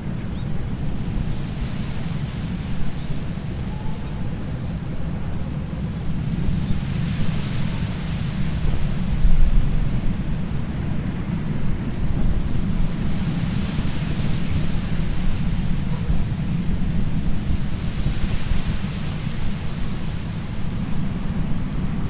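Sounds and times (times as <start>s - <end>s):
strong wind buffeting microphone: 0.0s - 22.0s
surf washing: 0.0s - 22.0s.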